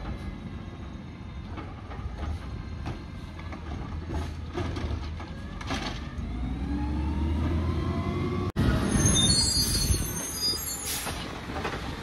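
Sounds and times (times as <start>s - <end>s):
garbage truck engine: 0.0s - 12.0s.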